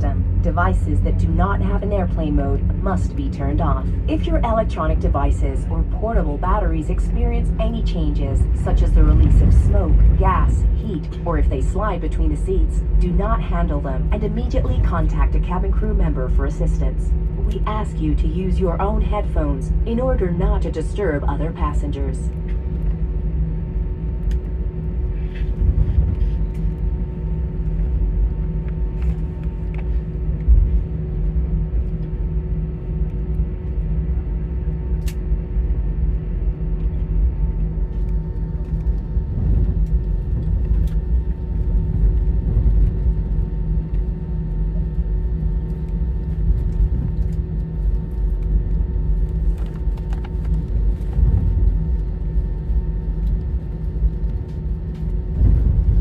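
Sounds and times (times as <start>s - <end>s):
aircraft cabin rumble and hum: 0.0s - 56.0s.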